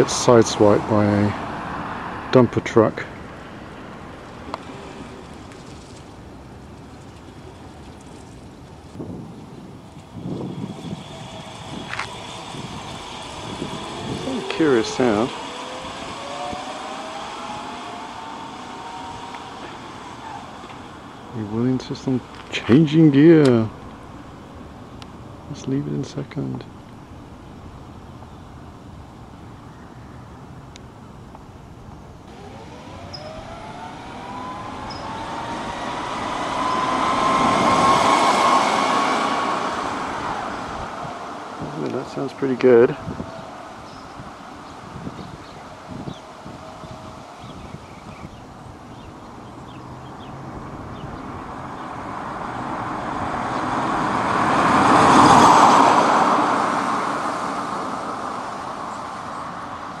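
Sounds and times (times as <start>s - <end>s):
car tyre and road noise: 0.0s - 60.0s
electric motor whine: 3.1s - 60.0s.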